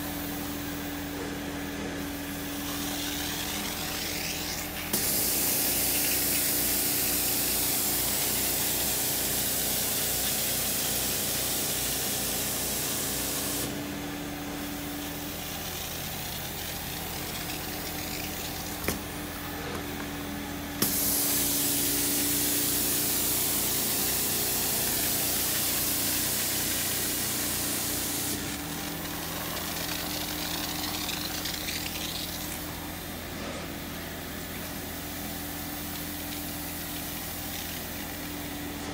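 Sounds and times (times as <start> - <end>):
carpet extractor motor humming: 0.0 - 38.9.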